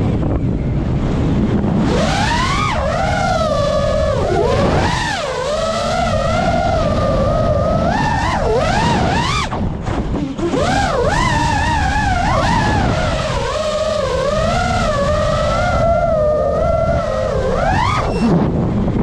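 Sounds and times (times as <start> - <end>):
quadcopter motors whining: 0.0 - 19.0
wind rumble: 0.0 - 19.0.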